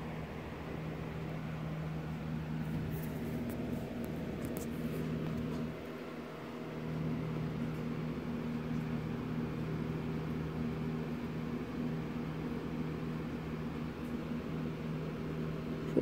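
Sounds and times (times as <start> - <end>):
appliance motor hum: 0.0 - 16.0.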